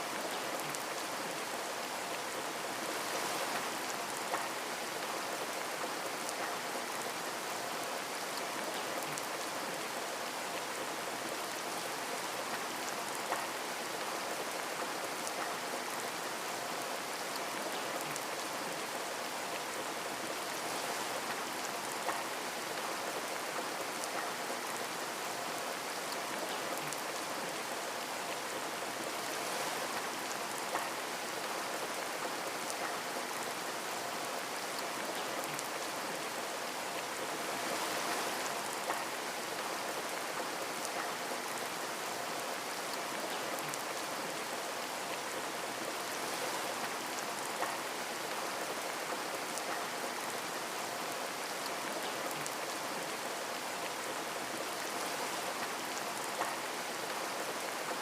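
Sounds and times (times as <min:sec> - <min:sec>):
rain on a window: 0:00.0 - 0:58.0.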